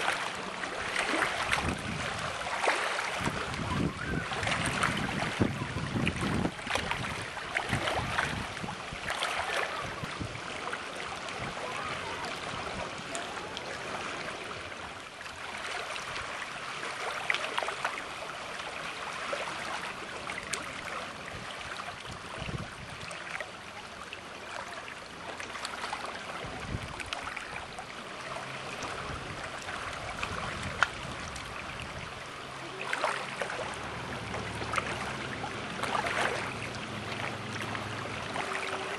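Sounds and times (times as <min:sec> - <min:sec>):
small water slaps: 0:00.0 - 0:38.9
water splashing and rushing: 0:00.0 - 0:38.9.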